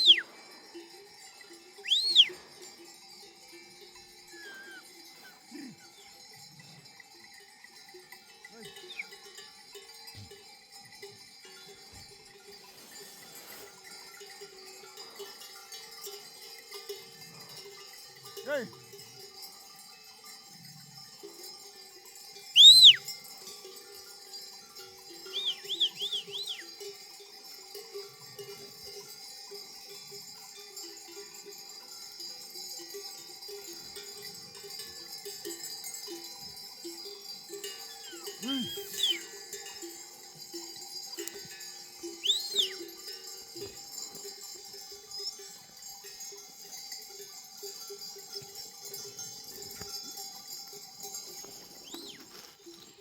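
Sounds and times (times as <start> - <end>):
sheep bells clinking: 0.0 - 53.0.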